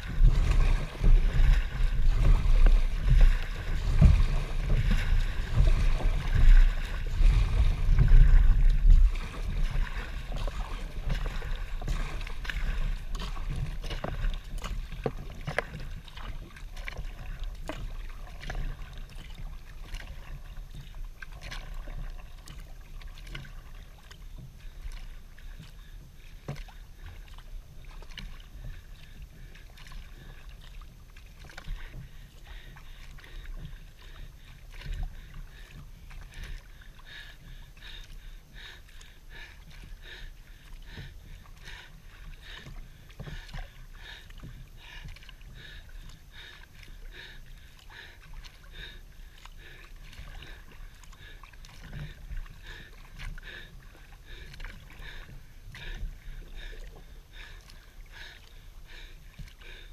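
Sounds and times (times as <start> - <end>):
paddle strokes splashing: 0.0 - 59.9
water lapping against hull: 0.0 - 59.9.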